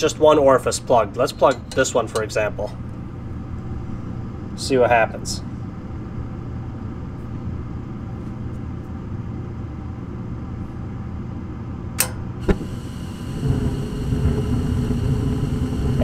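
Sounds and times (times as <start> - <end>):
furnace inducer motor hum: 0.0 - 16.0
gas burner low rumble: 0.0 - 16.0.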